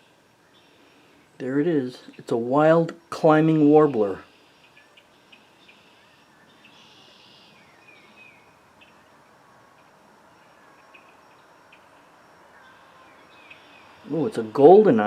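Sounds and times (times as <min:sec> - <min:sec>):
soft outdoor hiss: 0:00.0 - 0:15.0
songbird chirps and calls: 0:00.0 - 0:15.0.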